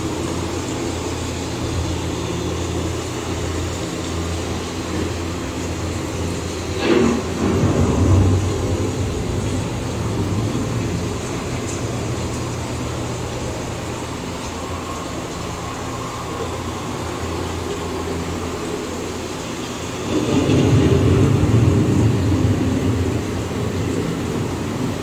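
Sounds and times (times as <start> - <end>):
ride machinery low rumble: 0.0 - 25.0.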